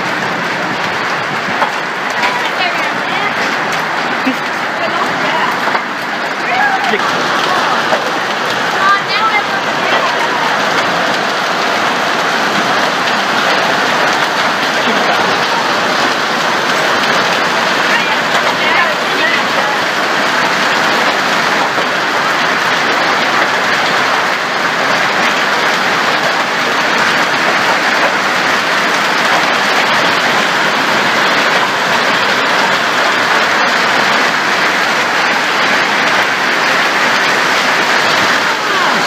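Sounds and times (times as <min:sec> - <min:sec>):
hail and heavy rain pelting: 0:00.0 - 0:39.0.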